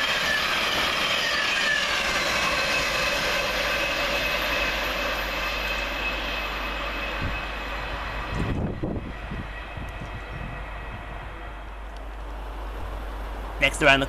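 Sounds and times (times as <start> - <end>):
wheels rushing on rails: 0.0 - 14.0.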